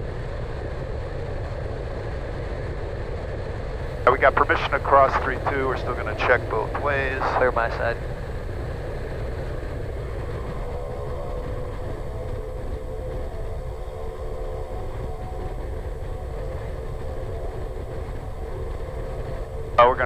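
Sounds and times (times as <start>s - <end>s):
turboprop engine running: 0.0s - 20.0s.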